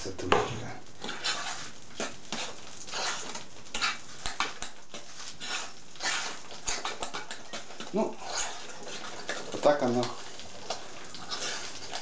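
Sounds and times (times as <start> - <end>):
fork scraping batter in pot: 1.0 - 12.0.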